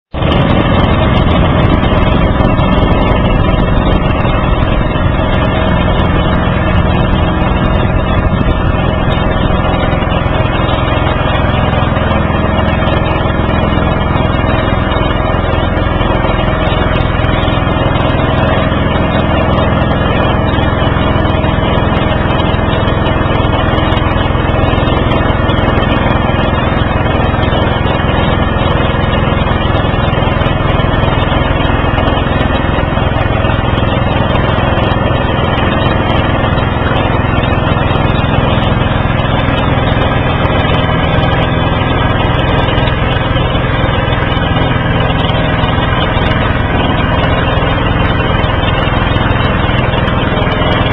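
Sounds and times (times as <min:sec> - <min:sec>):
small boat motor running: 0:00.1 - 0:50.9.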